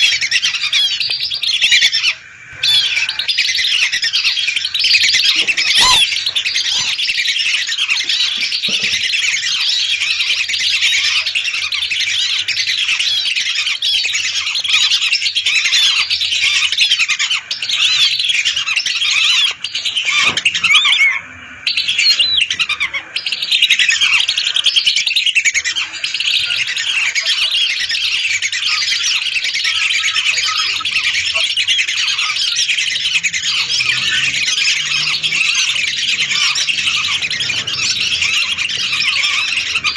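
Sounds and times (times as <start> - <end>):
flock of ducks whistling: 0.0 - 39.9.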